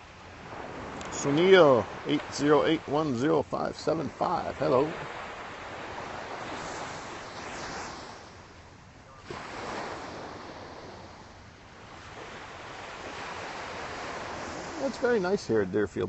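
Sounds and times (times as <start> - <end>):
wave breaking: 0.0 - 15.2
wind on microphone: 0.0 - 15.2
surf washing onto beach: 0.0 - 16.0.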